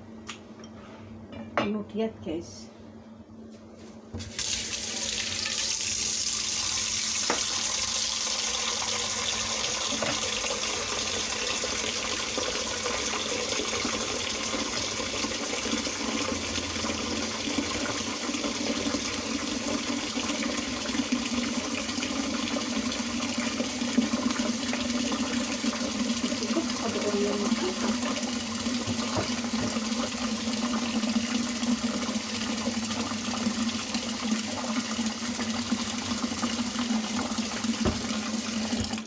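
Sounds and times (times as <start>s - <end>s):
water running from tap into sink: 4.2s - 39.0s.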